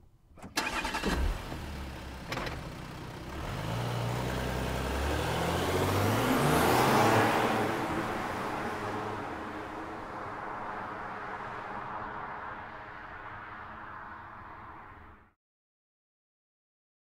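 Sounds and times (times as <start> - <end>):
car engine starting and revving: 0.4 - 14.9.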